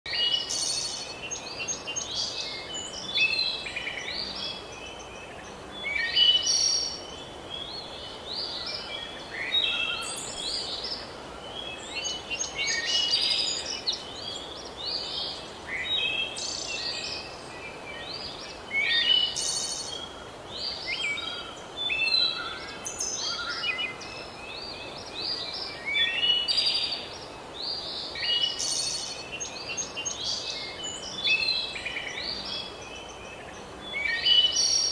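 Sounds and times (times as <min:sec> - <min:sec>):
faint background hiss: 0:00.1 - 0:34.9
songbirds chirping and trilling: 0:00.1 - 0:34.9.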